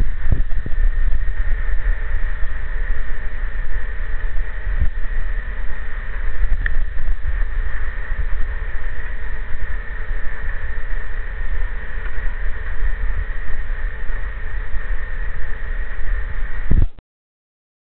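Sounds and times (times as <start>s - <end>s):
machinery hum with high tone: 0.0s - 17.0s
wind rumble on microphone: 0.0s - 17.0s.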